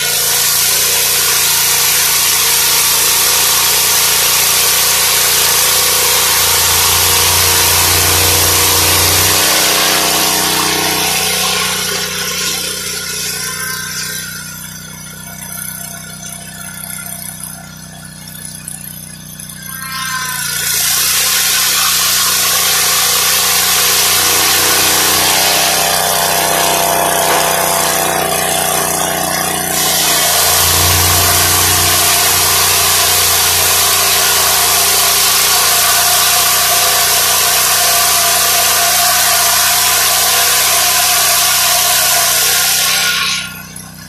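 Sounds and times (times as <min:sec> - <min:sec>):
sawmill blade cutting wood: 0:00.0 - 0:44.0.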